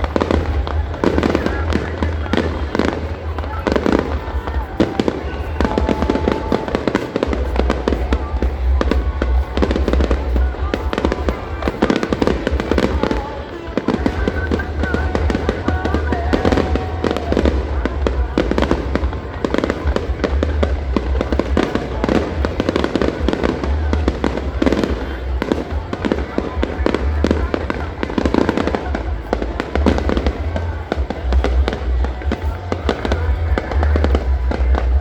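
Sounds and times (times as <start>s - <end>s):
fireworks crackling bangs: 0.0s - 35.0s
fireworks deep booms: 0.0s - 35.0s.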